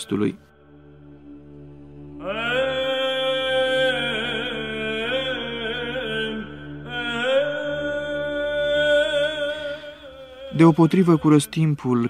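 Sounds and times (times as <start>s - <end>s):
steady low drone: 0.0s - 11.8s
chanted singing: 0.0s - 12.0s.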